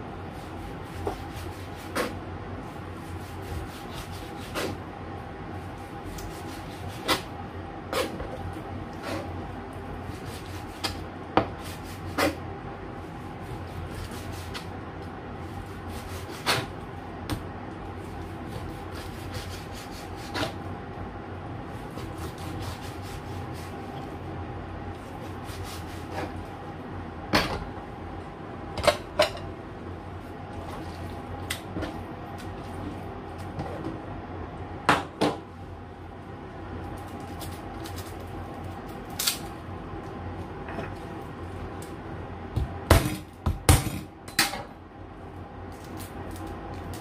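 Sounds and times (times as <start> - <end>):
background hum: 0.0 - 47.0.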